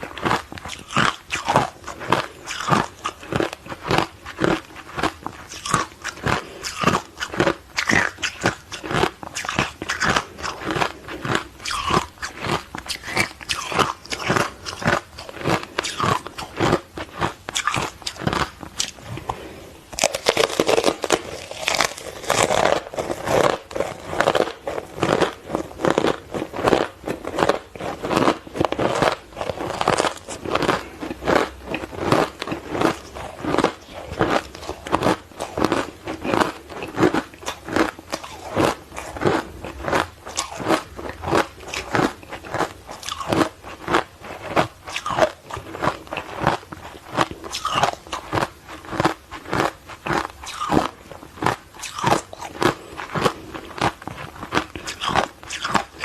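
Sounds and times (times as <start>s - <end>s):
crunching ice being chewed: 0.0s - 56.0s.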